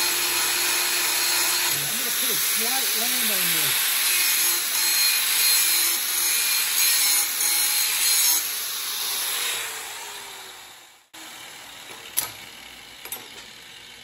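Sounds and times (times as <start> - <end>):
angle grinder grinding steel: 0.0 - 12.3.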